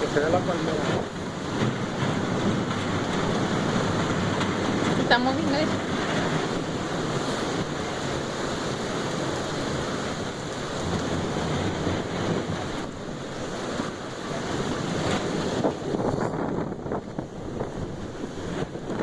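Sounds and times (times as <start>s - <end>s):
surf rushing: 0.0s - 19.0s
wind buffeting microphone: 0.0s - 19.0s.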